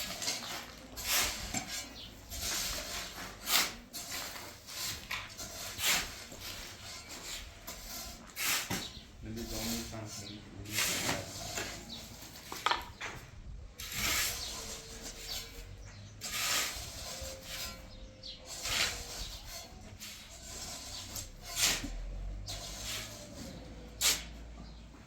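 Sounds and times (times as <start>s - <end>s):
scraping strokes: 0.0s - 13.2s, 13.8s - 24.8s.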